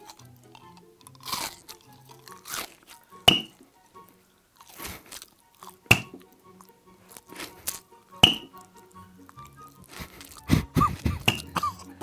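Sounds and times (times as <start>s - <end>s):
background music: 0.0s - 12.0s
hard candy crunching: 0.0s - 12.0s.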